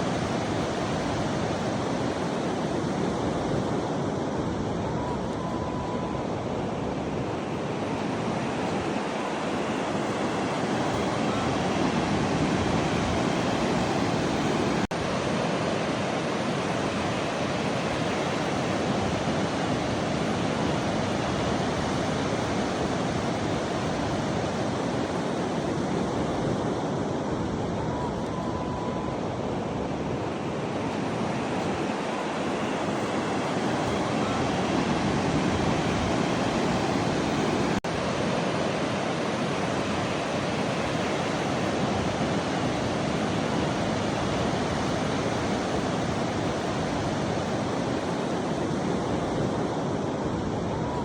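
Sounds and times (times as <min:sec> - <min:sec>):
ocean waves breaking: 0:00.0 - 0:51.0.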